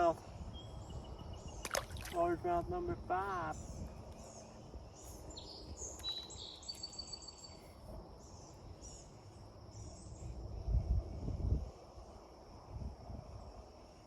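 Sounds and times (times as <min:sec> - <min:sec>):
faint insect hum: 0:00.0 - 0:14.0
songbirds chirping: 0:00.0 - 0:14.0.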